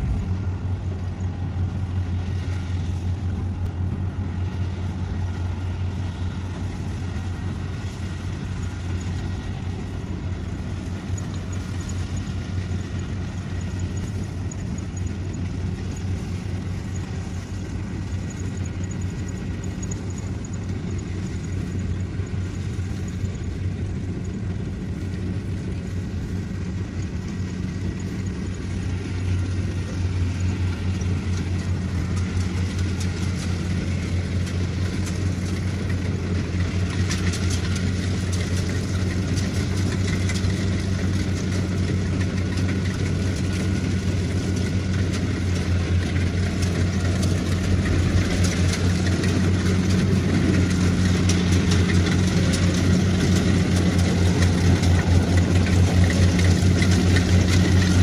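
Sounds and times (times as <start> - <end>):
combine harvester diesel engine droning: 0.0 - 58.0.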